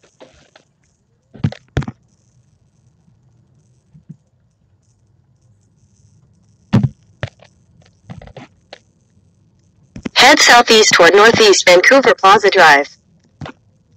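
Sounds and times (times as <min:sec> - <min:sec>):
faint low hum: 0:00.0 - 0:13.9.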